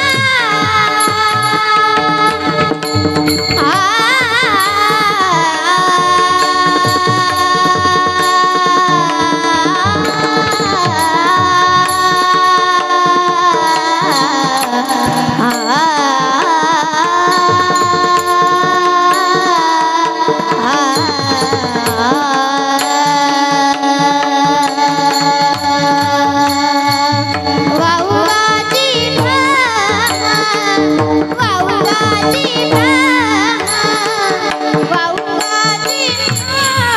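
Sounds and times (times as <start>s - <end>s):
person singing devotional melody: 0.0s - 36.9s.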